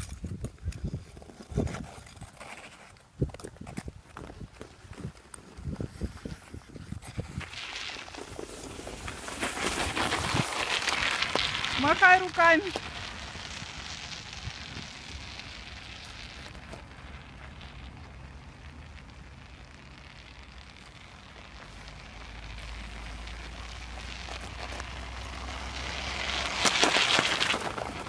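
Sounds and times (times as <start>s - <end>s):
bike tyres rolling over ice: 0.0s - 28.0s.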